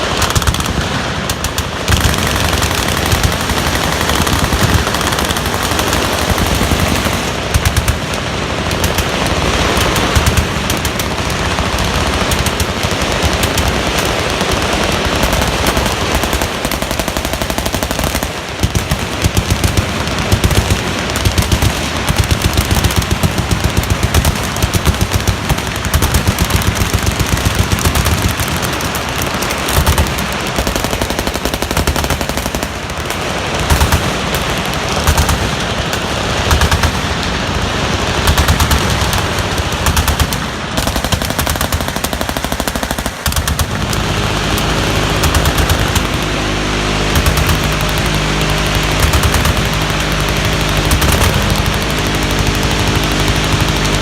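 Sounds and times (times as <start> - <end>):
machine guns firing: 0.0 - 54.0.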